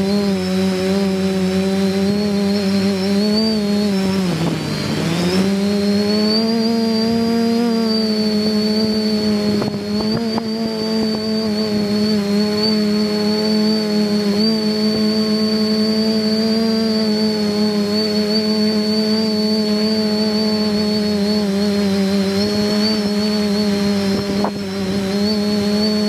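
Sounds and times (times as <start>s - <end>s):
high-pitched motor whine: 0.0s - 26.0s
quadcopter motors humming: 0.0s - 26.0s.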